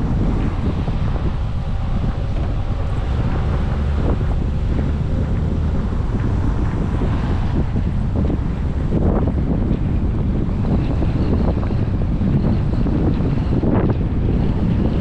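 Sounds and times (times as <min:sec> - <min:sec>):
car driving on wet pavement: 0:00.0 - 0:15.0
wind buffeting microphone: 0:00.0 - 0:15.0.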